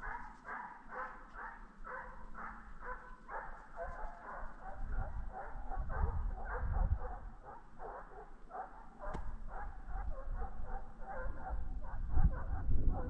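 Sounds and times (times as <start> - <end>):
dogs yelping barks: 0.0 - 13.0.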